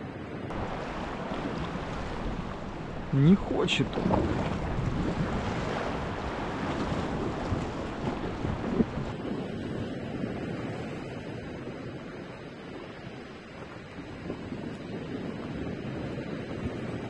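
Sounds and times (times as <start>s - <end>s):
sea waves washing and lapping: 0.0s - 17.0s
wind buffeting microphone: 0.1s - 17.0s.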